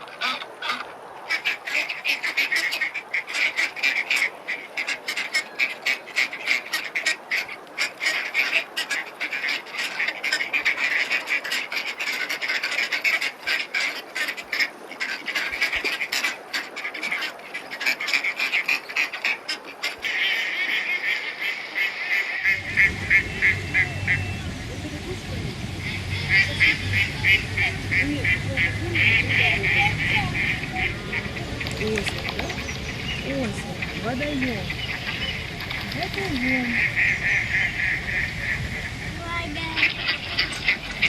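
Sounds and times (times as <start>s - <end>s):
flock of ducks quacking: 0.0s - 41.0s.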